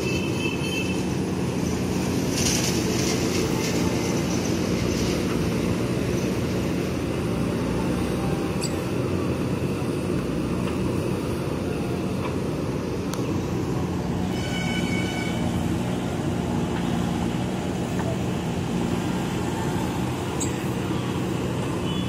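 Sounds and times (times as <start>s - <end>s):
diesel engine running under load: 0.0s - 22.0s
backhoe digging mud: 0.2s - 22.0s.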